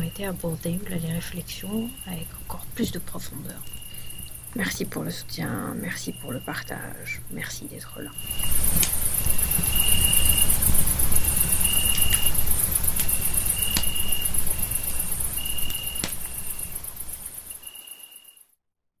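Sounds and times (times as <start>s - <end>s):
crackles: 0.0s - 18.4s
crickets chirring: 0.0s - 18.5s.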